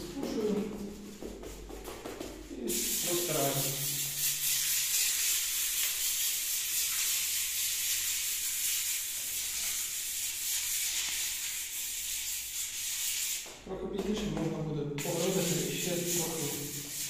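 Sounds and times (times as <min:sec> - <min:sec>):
sponge rubbing plaster on wall: 0:00.0 - 0:13.6, 0:15.0 - 0:17.0.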